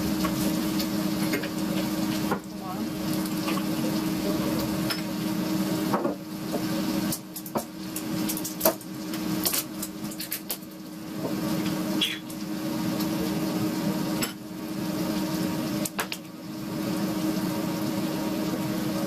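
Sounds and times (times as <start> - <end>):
kitchen appliance humming: 0.0 - 19.0.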